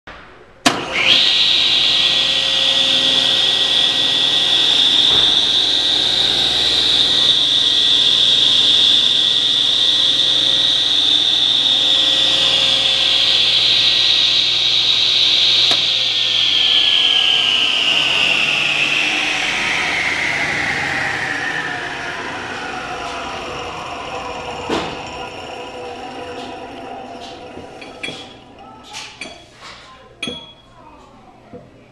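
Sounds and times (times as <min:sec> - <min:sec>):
table saw whine: 0:00.6 - 0:29.5.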